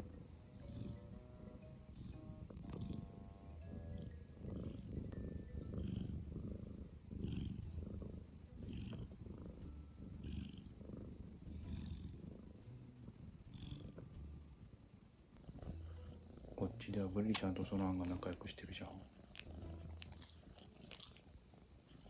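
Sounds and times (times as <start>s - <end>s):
cats purring: 0.0s - 22.0s.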